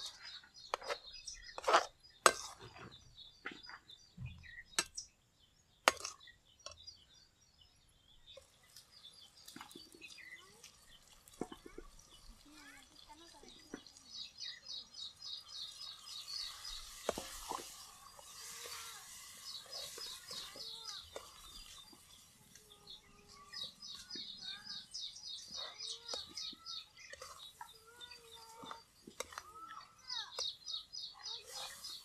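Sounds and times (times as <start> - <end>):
birds chirping rapidly: 0.0 - 32.0.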